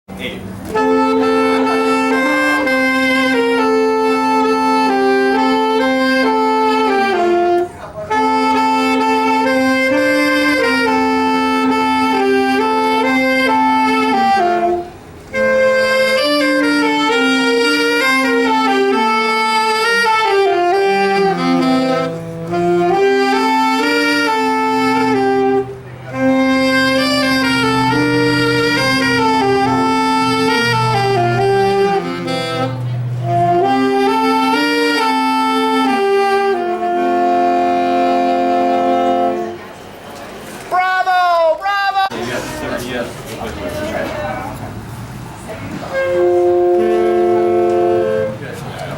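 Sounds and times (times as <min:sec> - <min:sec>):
wind ensemble playing slow chords: 0:00.6 - 0:39.8, 0:44.9 - 0:48.9.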